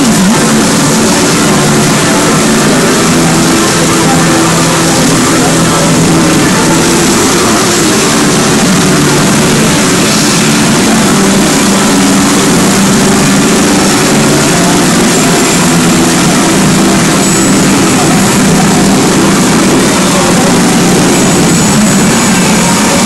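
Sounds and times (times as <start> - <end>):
electronic machine sound effects: 0.0 - 23.0.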